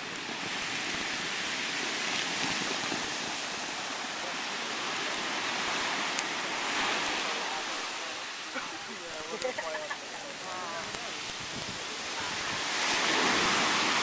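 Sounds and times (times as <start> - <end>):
surf hissing over lava: 0.0 - 14.0.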